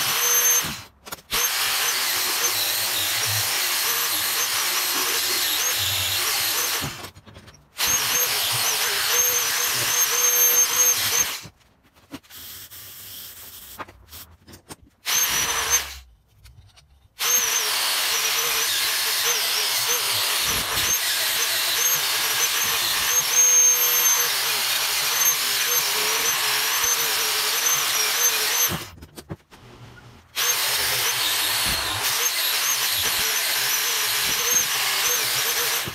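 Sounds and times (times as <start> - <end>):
angle grinder on metal: 0.0 - 7.1, 7.8 - 11.5, 15.0 - 16.0, 17.2 - 28.9, 30.3 - 35.9.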